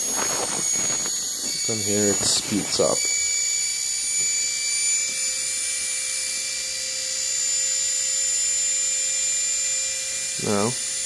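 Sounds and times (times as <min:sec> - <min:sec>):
washing machine motor whining: 0:00.0 - 0:11.0.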